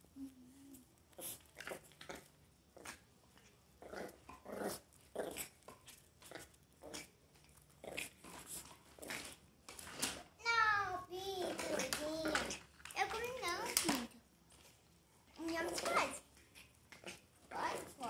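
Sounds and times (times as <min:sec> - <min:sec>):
small dog play noises: 0:00.1 - 0:18.0.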